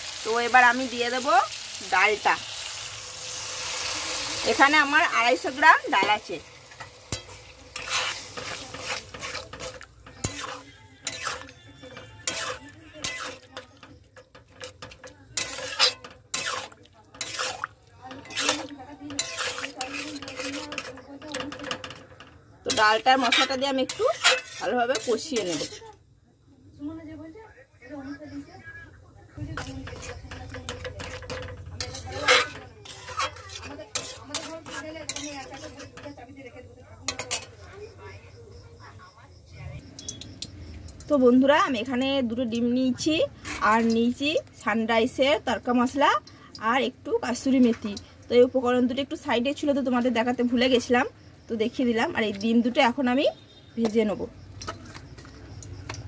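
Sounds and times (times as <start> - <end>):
metal spatula scraping a pan: 0.0 - 26.0, 29.4 - 37.8, 42.6 - 46.3, 47.3 - 51.0, 51.7 - 56.0.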